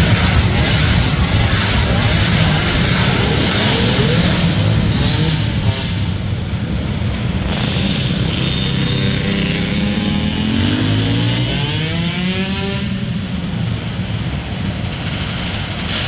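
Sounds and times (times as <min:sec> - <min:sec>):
atv engines revving: 0:00.0 - 0:16.0.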